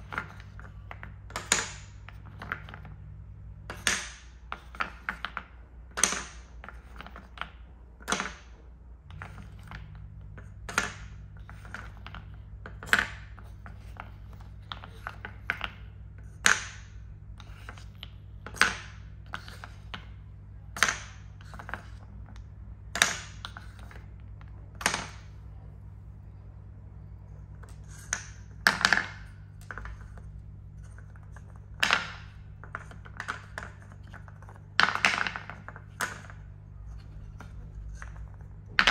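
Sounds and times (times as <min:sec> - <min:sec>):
wooden balls clacking into cups: 0:00.0 - 0:38.9.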